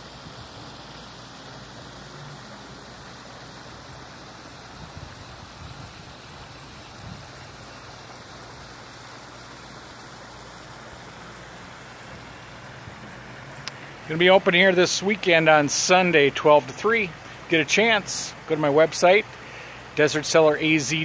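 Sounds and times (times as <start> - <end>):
water splashing from waterfall: 0.0 - 21.0.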